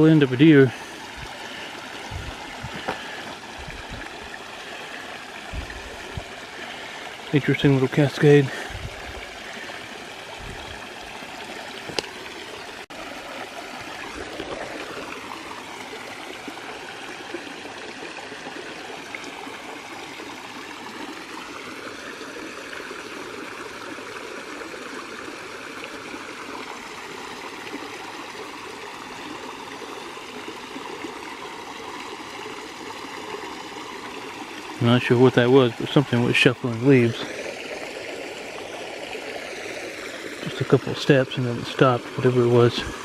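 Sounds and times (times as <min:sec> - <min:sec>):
water rushing over rock: 0:00.0 - 0:43.0.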